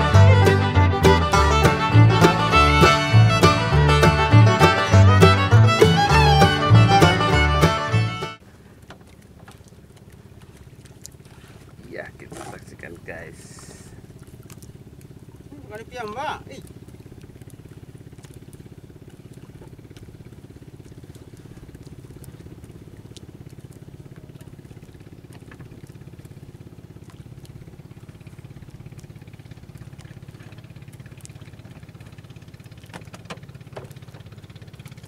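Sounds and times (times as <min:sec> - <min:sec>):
small boat engine puttering: 0:00.0 - 0:35.0.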